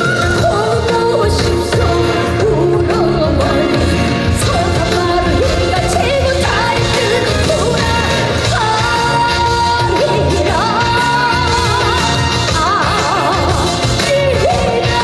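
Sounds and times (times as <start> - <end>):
band playing steady beat: 0.0 - 15.0
woman singing: 0.0 - 15.0.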